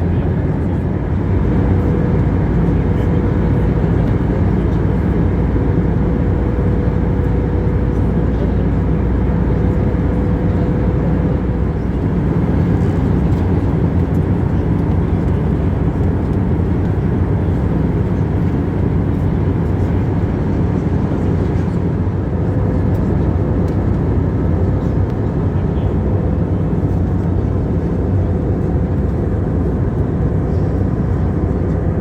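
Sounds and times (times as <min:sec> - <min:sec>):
airliner cabin engine rush: 0:00.0 - 0:32.0.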